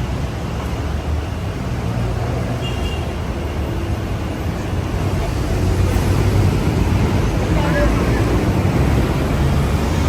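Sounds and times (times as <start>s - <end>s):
city traffic engines rumbling: 0.0s - 10.0s.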